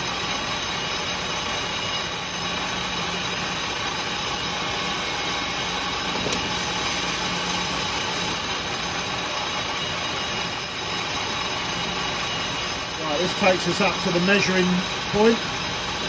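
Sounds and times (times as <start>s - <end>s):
metal lathe running: 0.0s - 16.0s.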